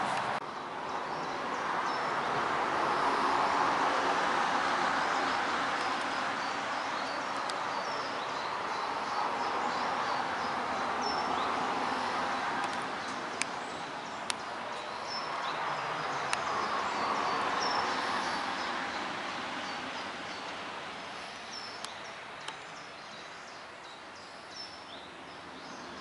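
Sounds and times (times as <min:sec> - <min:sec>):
small birds chirping: 0:05.1 - 0:26.0.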